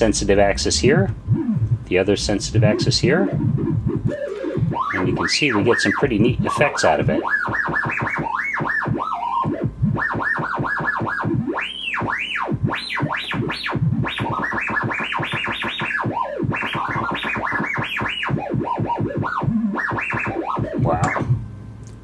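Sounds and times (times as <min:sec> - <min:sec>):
swooping electronic tones: 0:00.0 - 0:21.5.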